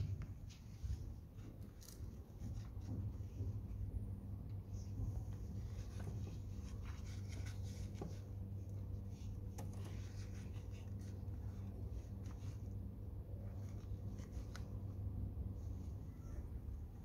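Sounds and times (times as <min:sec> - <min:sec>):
gloved hands rubbing fruit skin: 0:00.0 - 0:16.0
steady low hum: 0:00.0 - 0:17.0.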